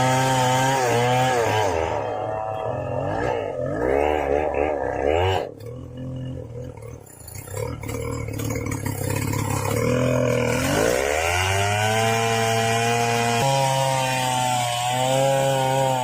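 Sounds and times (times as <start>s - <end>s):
chainsaw engine cutting: 0.0s - 16.0s.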